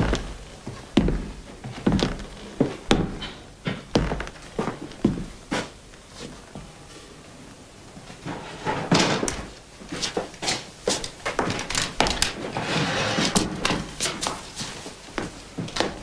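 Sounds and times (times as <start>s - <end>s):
footsteps on wooden floor: 0.0s - 6.7s, 9.3s - 16.0s.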